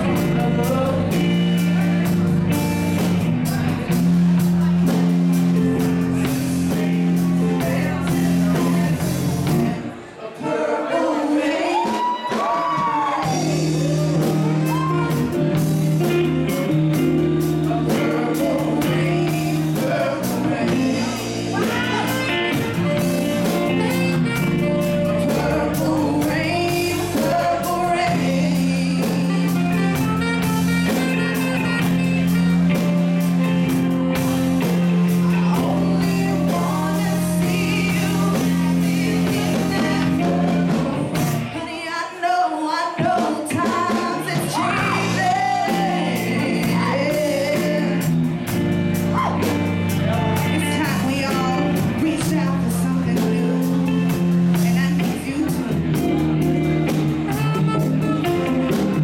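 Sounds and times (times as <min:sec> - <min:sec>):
woman singing: 0:00.0 - 0:01.7, 0:05.8 - 0:31.9, 0:35.1 - 0:48.1, 0:49.2 - 0:58.9
rock band playing a ballad: 0:00.0 - 0:10.0, 0:11.7 - 0:41.9, 0:42.9 - 0:59.0.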